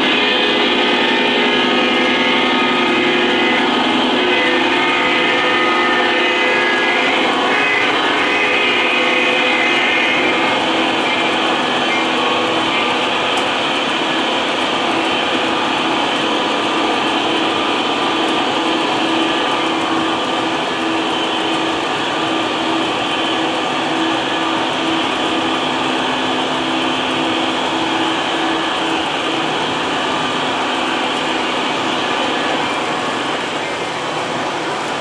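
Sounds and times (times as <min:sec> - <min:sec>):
model train rolling on track: 0:00.0 - 0:35.0.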